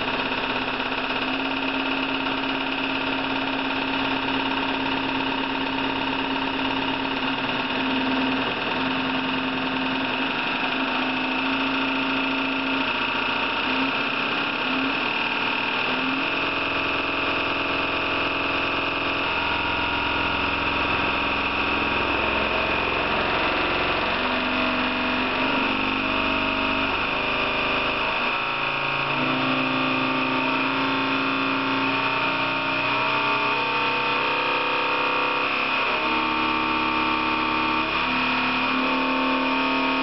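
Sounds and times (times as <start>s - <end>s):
machine high whine: 0.0s - 40.0s
machine hum shifting pitch: 0.0s - 40.0s.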